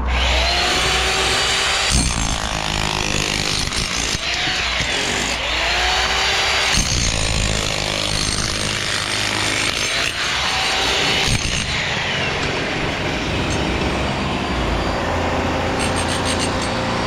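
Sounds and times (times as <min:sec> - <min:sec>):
power tool running: 0:00.0 - 0:17.0.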